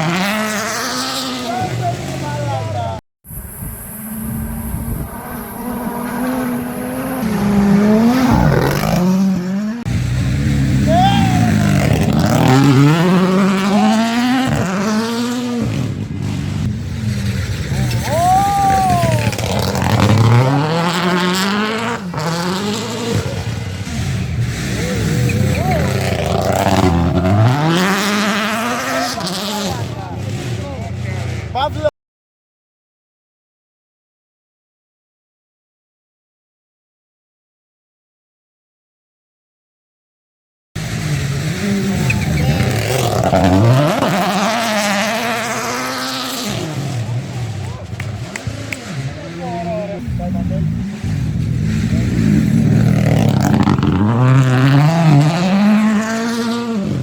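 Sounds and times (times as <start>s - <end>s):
car engine revving hard: 0.0s - 31.9s, 40.8s - 57.0s.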